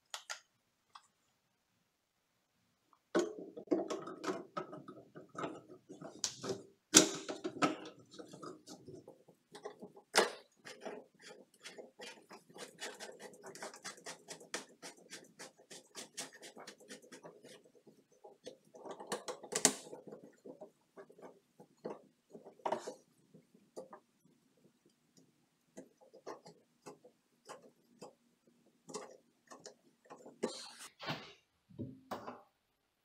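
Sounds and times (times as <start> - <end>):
plastic pipe parts knocking: 3.0 - 30.6.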